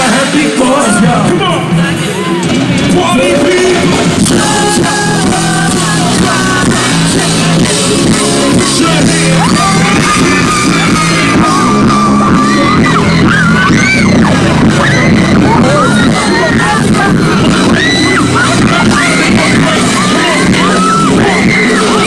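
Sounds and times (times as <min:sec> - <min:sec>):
crowd yelling: 0:00.0 - 0:22.0
live concert music with singing: 0:00.0 - 0:22.0.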